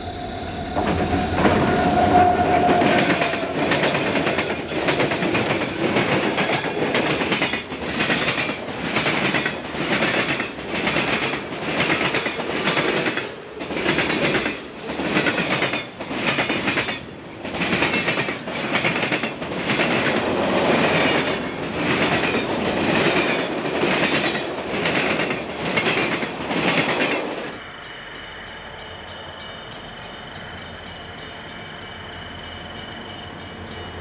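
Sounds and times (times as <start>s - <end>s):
train wheels clattering over rail joints: 0.8s - 28.0s.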